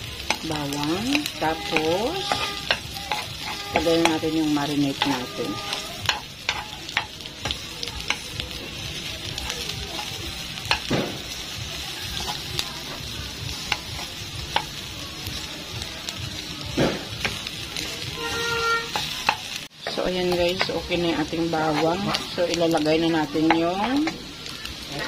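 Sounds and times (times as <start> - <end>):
garlic sizzling in oil: 0.0 - 25.0
utensil stirring in pan: 0.0 - 25.0.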